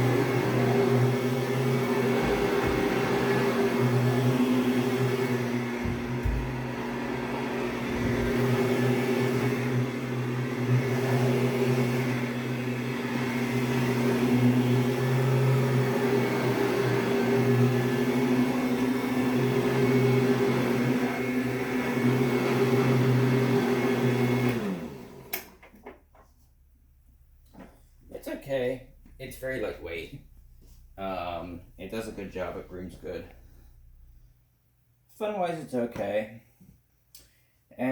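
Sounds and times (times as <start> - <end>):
vacuum cleaner motor hum: 0.0 - 26.1, 26.9 - 34.4.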